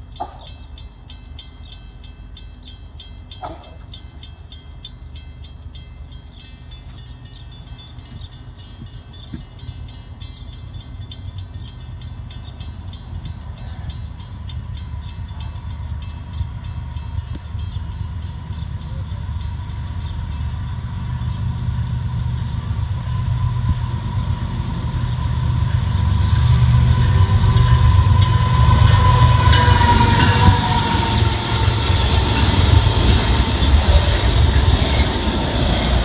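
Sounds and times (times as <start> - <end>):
diesel locomotive engine rumble: 0.0 - 36.0.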